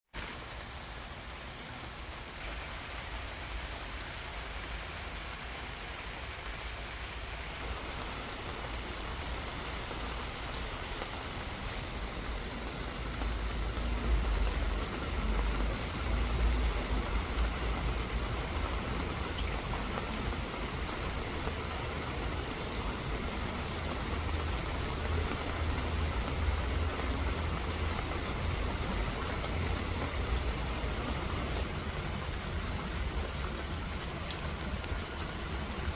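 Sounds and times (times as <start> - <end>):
rain falling: 0.1 - 35.9.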